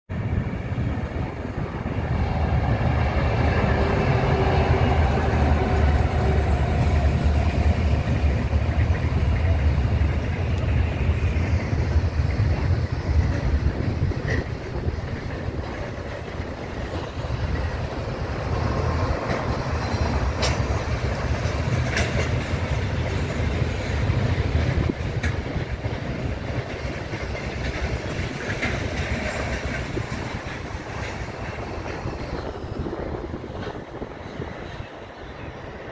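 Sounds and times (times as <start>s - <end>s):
freight train rumbling past: 0.1s - 35.9s
train wheels clicking: 1.2s - 35.0s.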